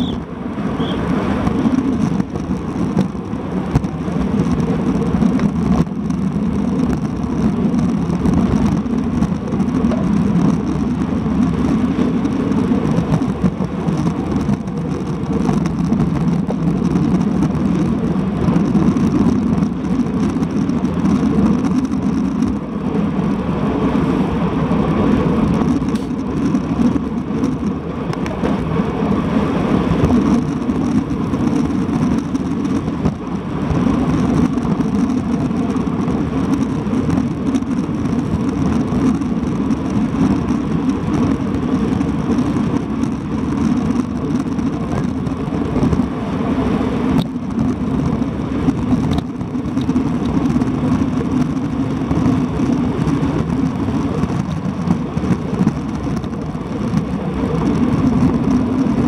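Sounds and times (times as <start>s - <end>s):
tyre noise on asphalt: 0.0s - 59.0s
wind rushing over microphone: 0.0s - 59.0s.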